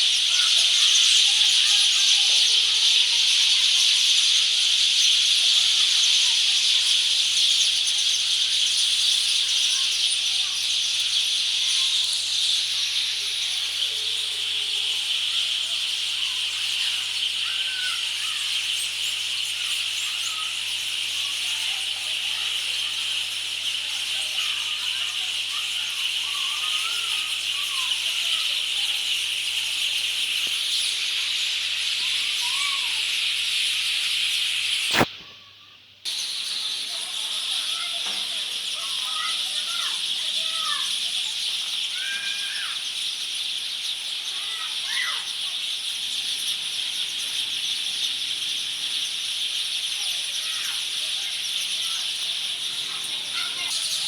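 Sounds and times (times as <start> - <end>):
bird chirps: 0.0 - 54.0
flock of birds chattering: 0.0 - 54.0.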